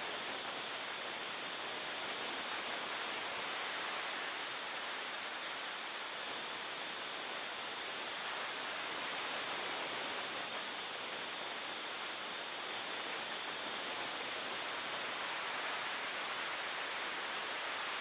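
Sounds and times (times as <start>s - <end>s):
wind and road noise in car: 0.0s - 18.0s.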